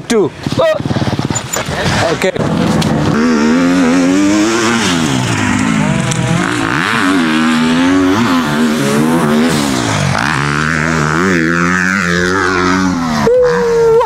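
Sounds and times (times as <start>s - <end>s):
dirt bike engine revving: 0.4s - 14.0s.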